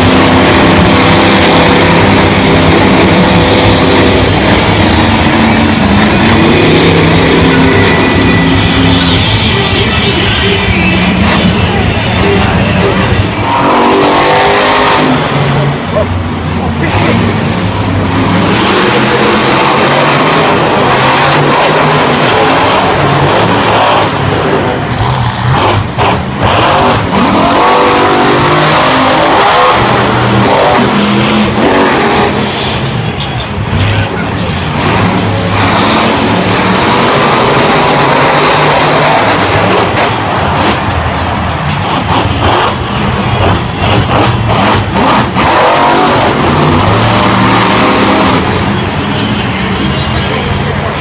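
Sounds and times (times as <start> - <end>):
truck engines revving loudly: 0.0 - 51.0.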